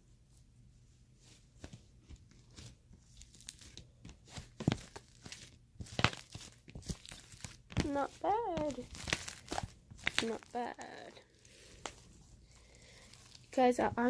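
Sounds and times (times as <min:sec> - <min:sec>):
slime squelching and crackling: 0:02.5 - 0:14.0.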